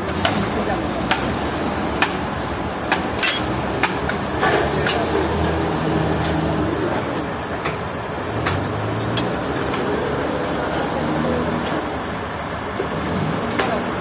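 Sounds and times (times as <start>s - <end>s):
sawmill machinery engine drone: 0.0s - 14.0s.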